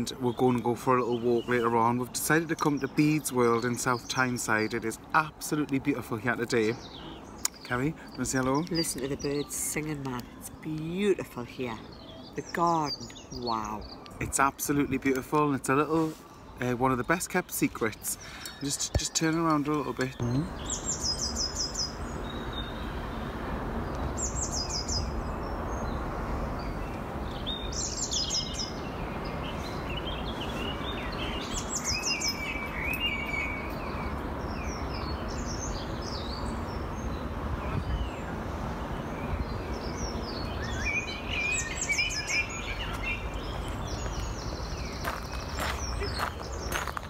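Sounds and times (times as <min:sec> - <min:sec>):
birds twittering: 0:00.0 - 0:47.0.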